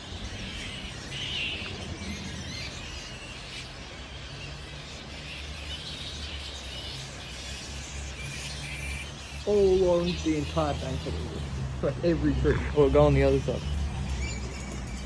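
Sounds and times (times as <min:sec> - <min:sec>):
bats chattering and squealing: 0:00.0 - 0:15.0.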